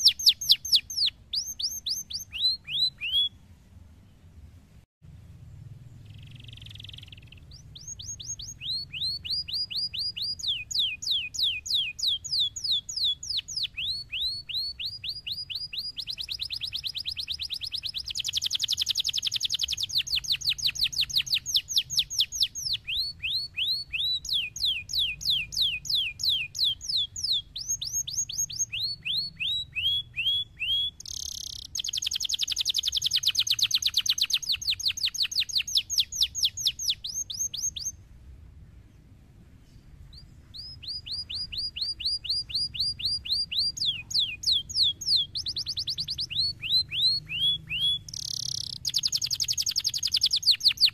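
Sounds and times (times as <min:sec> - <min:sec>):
canary singing trills: 0:00.0 - 0:04.4, 0:05.8 - 0:38.0, 0:39.6 - 0:50.9.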